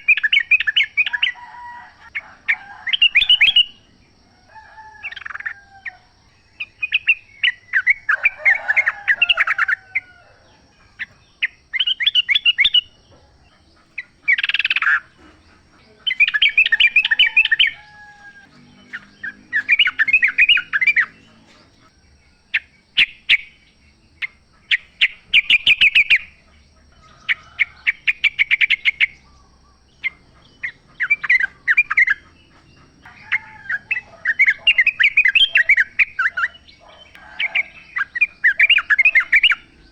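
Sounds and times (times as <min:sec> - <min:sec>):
bulbuls chattering song: 0:00.0 - 0:39.9.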